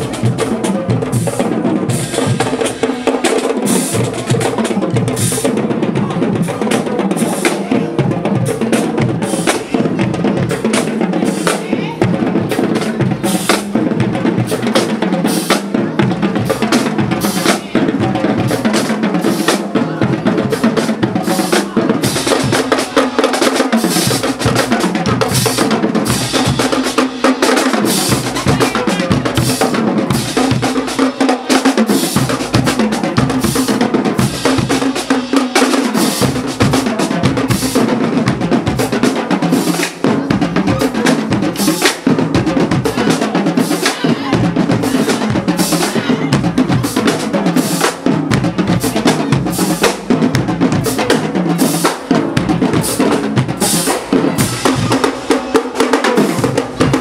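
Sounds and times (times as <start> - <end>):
snare and bass drums playing: 0.0 - 57.0.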